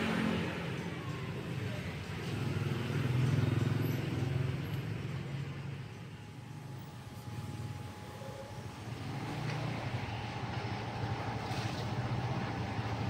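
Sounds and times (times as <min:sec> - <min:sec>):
passing road traffic rumble: 0:00.0 - 0:13.0.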